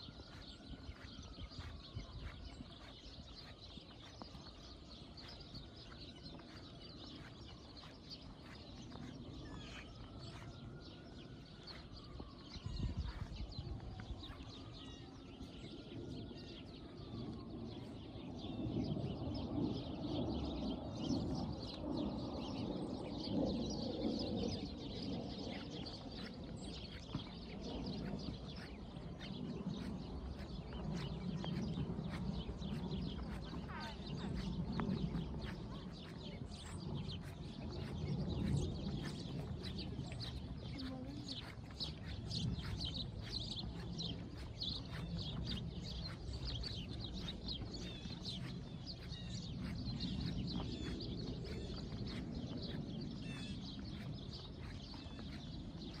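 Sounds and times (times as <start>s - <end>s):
footsteps crunching through snow: 0.0s - 16.8s, 24.6s - 56.0s.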